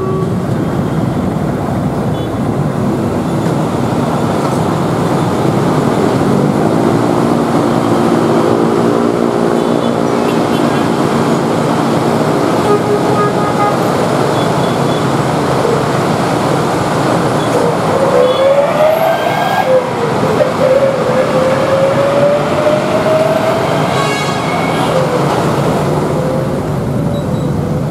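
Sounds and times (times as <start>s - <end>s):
electric train rumbling: 0.0s - 27.9s.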